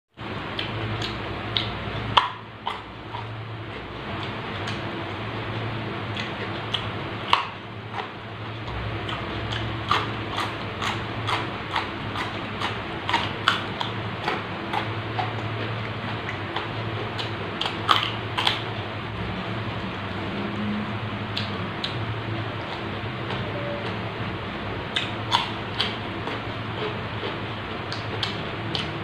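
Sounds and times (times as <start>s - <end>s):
steady low hum: 0.1s - 29.0s
crunching and chewing vegetables: 0.2s - 29.0s.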